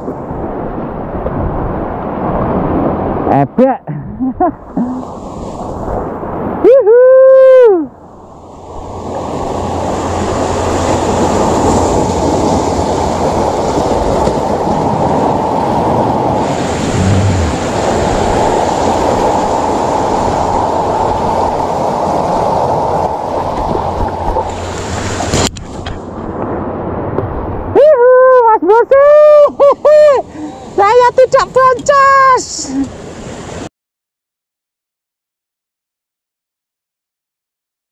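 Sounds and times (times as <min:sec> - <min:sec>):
sea surf on rocky shore: 0:00.0 - 0:33.7.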